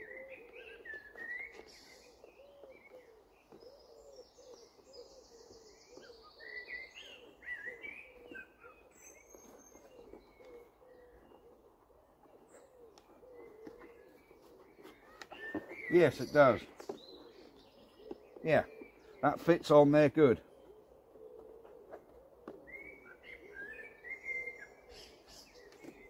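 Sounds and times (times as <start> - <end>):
pigeon cooing: 0.0 - 26.0
small birds chirping: 0.0 - 26.0.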